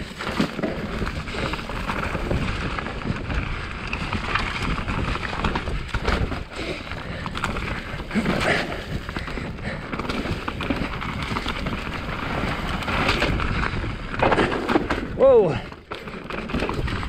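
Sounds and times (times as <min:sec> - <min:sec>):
bike rattles and knocks: 0:00.0 - 0:17.0
bike tyres rumbling on dirt: 0:00.0 - 0:17.0.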